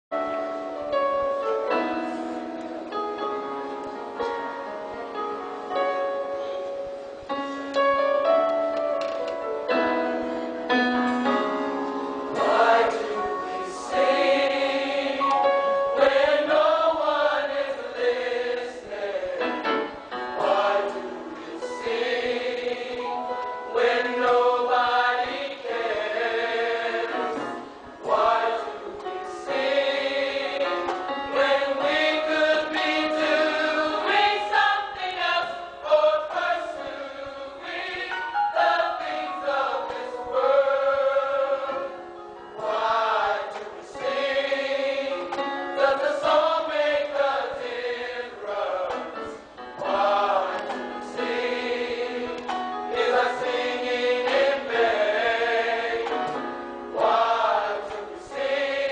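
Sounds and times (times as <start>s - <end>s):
gospel choir singing in harmony: 0.2s - 58.9s.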